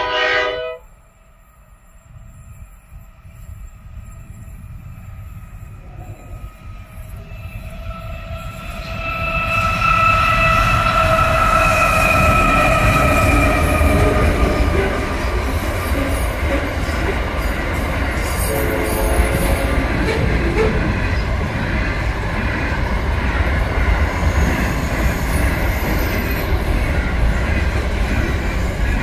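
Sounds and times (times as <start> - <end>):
freight train rumbling past: 0.0 - 29.0
locomotive whine: 0.0 - 29.0.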